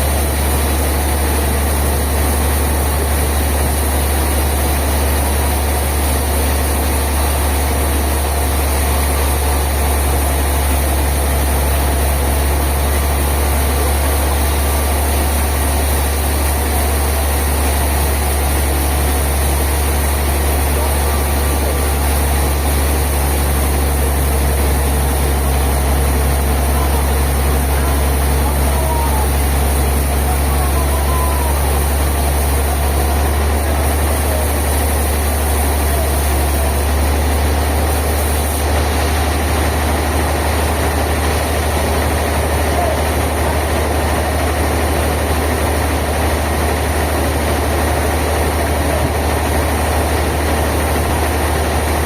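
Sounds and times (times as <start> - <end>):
sawmill machinery droning: 0.0 - 52.0.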